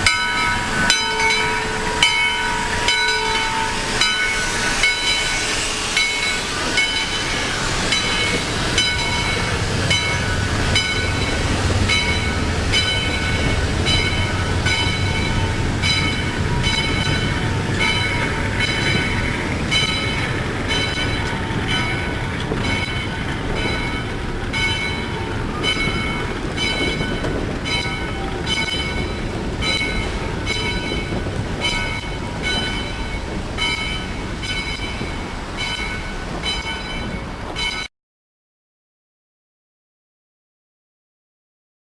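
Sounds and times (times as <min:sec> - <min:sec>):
constant high ringing: 0:00.0 - 0:37.9
rail clacks: 0:00.0 - 0:37.9
train rumbling on track: 0:00.0 - 0:37.9.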